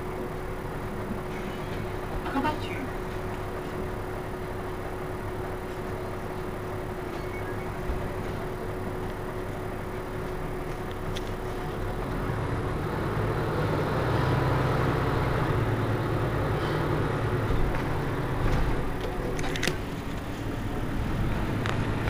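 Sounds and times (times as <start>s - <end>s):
bus diesel engine humming: 0.0s - 22.0s.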